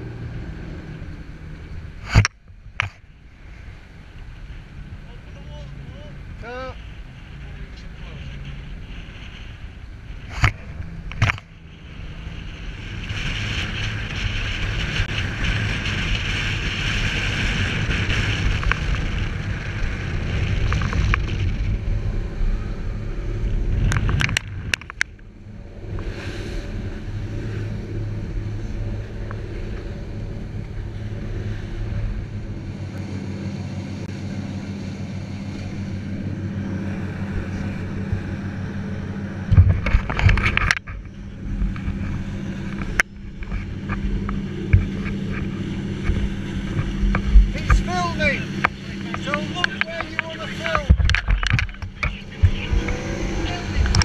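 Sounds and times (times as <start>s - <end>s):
diesel engines running: 0.0s - 54.0s
wind on microphone: 0.0s - 54.0s.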